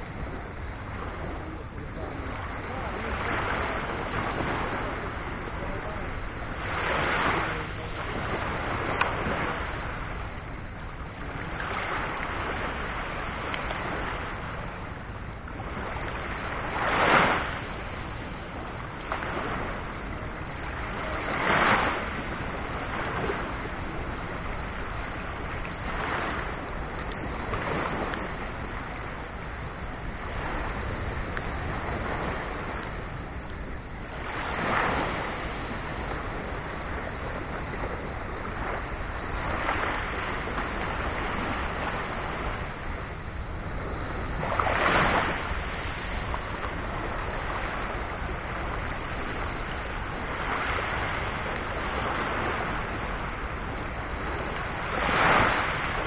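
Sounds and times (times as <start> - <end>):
small waves breaking on beach: 0.0 - 56.0.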